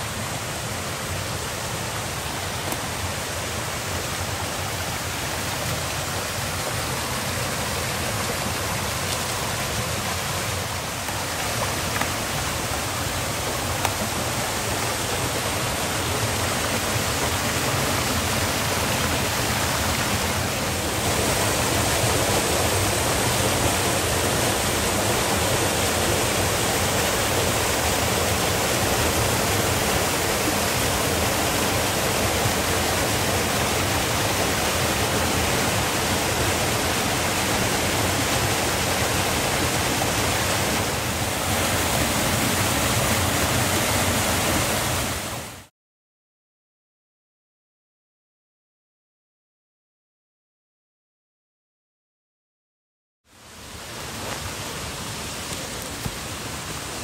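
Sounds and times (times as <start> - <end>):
small waterfall rushing: 0.0 - 45.7, 53.3 - 57.0.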